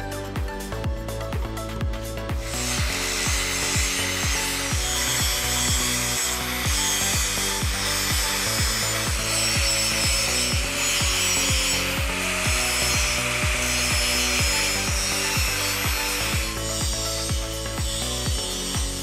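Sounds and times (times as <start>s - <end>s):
fast music beat with bass: 0.0s - 19.0s
angle grinder on metal: 2.2s - 19.0s.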